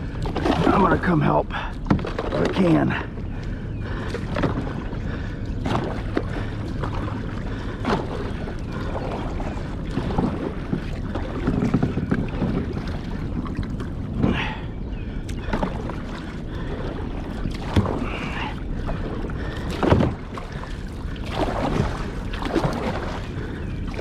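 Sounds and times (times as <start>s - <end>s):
water noise: 0.0s - 24.0s
wind buffeting microphone: 0.0s - 24.0s.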